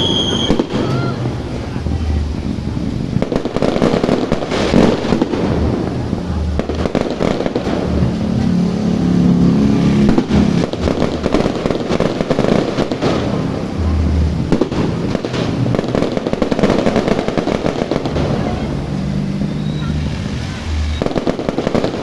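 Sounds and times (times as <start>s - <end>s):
fireworks bangs and crackling pops: 0.0s - 22.0s.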